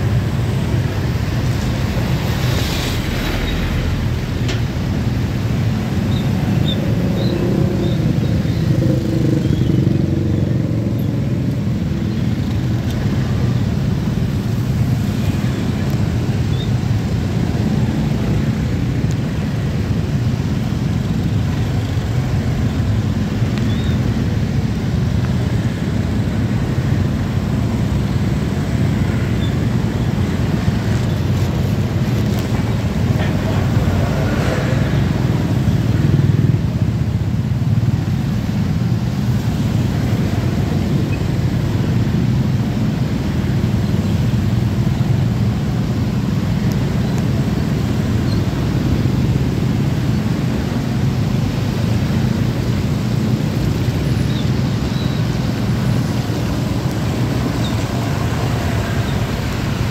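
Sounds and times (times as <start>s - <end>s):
traffic engines idling: 0.0s - 59.9s.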